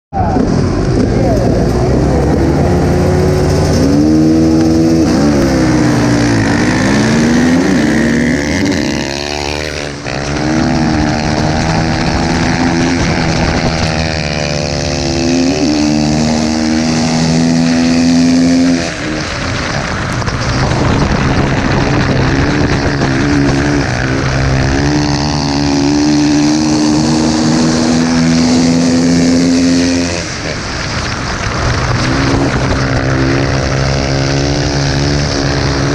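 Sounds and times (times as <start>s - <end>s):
another race bike engine: 0.3s - 35.9s
dirt bike engine revving: 0.4s - 35.9s.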